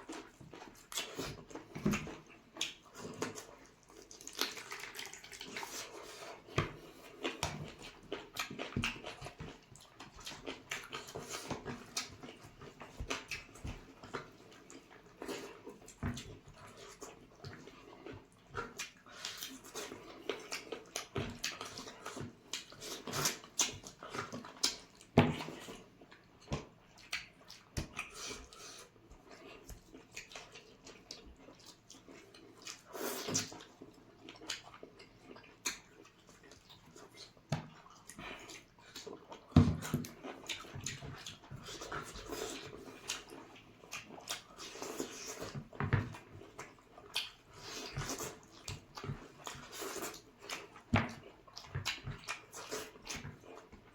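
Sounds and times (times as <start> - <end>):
chewing and lip smacking: 0.0 - 53.9.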